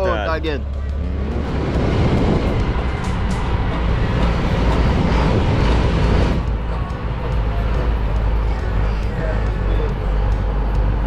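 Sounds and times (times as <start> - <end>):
road noise low rumble: 0.0 - 11.0.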